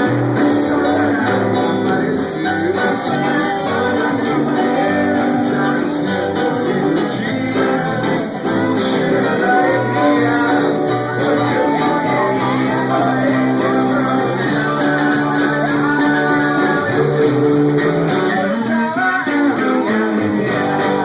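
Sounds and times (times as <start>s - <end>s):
guitar: 0.0s - 21.0s
person singing: 0.0s - 21.0s.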